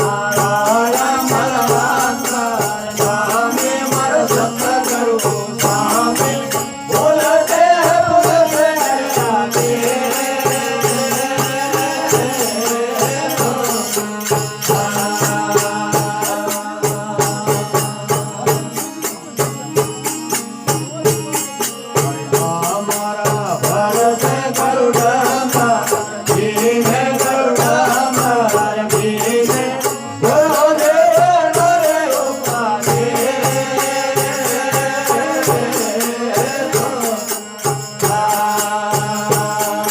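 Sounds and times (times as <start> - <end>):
folk devotional melody: 0.0 - 39.9
rhythmic percussion beat: 0.0 - 39.9.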